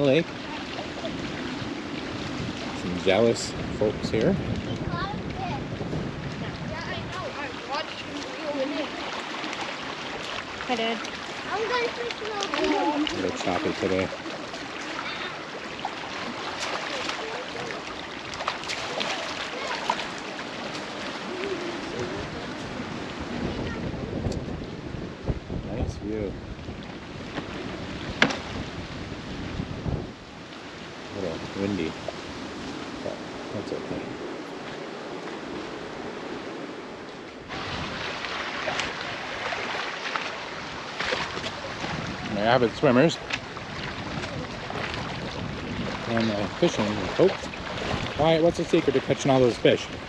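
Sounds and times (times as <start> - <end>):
lake water lapping and splashing: 0.0 - 50.0
wind: 0.0 - 50.0.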